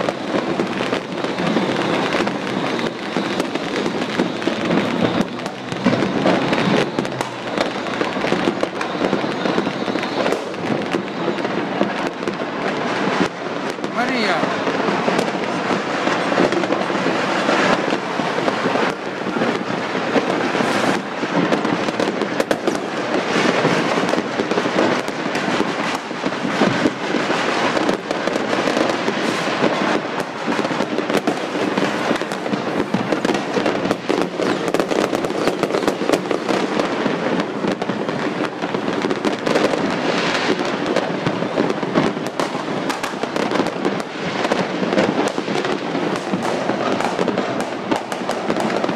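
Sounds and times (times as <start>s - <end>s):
fireworks crackling and banging: 0.0s - 48.9s.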